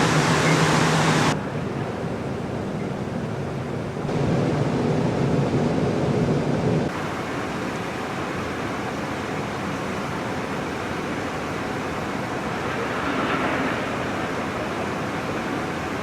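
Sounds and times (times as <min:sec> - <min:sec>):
low rumbling on a ship: 0:00.0 - 0:16.0.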